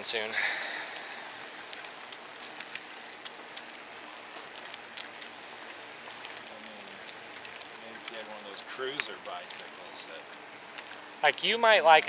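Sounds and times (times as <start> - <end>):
bike clicking and rattling: 0.0 - 12.0
bike tyres rolling on trail: 0.0 - 12.0.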